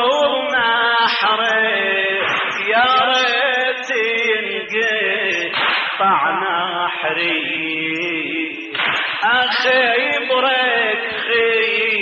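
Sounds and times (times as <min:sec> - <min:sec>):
man chanting a lament: 0:00.0 - 0:12.0.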